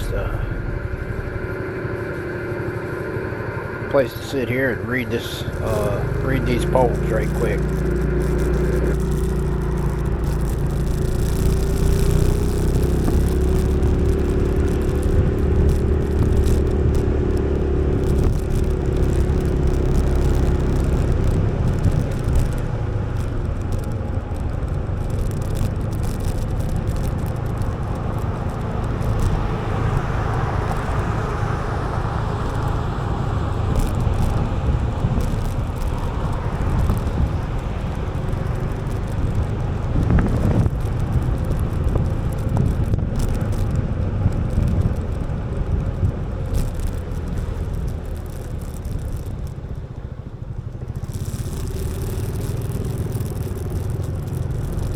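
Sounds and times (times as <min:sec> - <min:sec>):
scooter engine and road rumble: 0:00.0 - 0:54.9
wind noise on microphone: 0:04.5 - 0:54.9.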